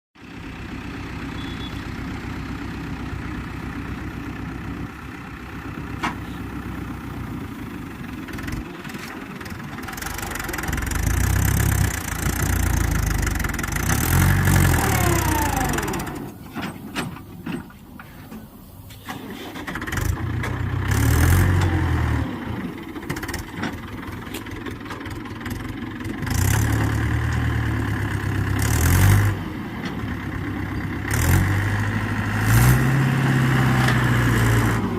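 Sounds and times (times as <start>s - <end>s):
tractor diesel engine revving: 0.2s - 34.9s.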